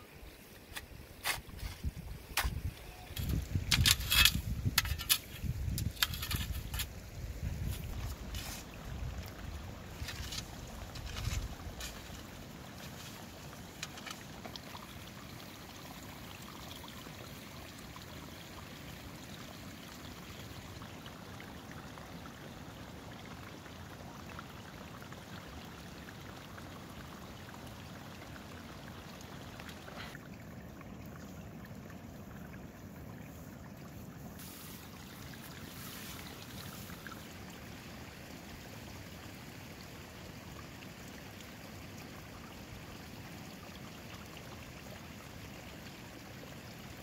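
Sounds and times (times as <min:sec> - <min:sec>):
stream running: 0:00.0 - 0:47.0.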